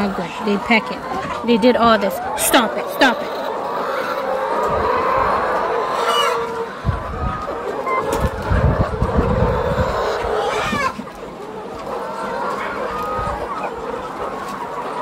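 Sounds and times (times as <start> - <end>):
hens clucking and squawking: 0.0 - 15.0.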